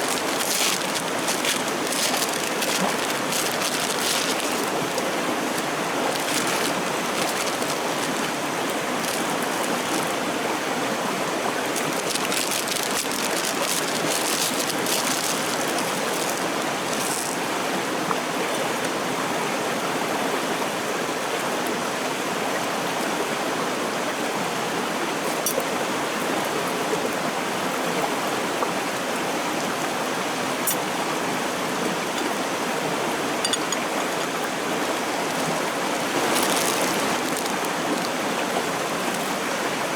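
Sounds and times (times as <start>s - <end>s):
stream flowing over rocks: 0.0s - 26.4s, 27.2s - 39.9s.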